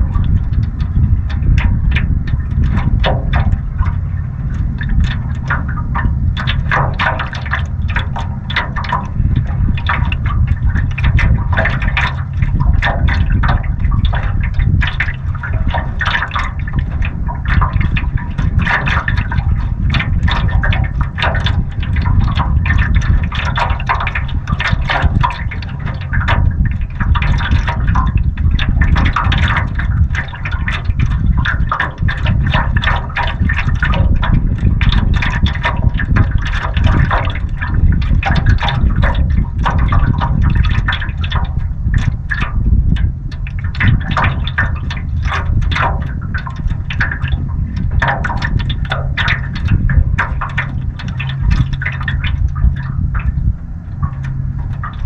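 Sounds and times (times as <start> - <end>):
water slapping against canoe hull: 0.0 - 55.0
wind rumble on microphone: 0.0 - 55.0.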